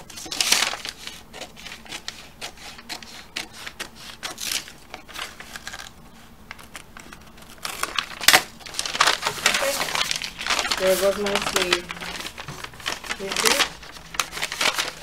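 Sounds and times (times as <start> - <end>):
scissors snipping paper: 0.1 - 5.9, 6.5 - 15.0.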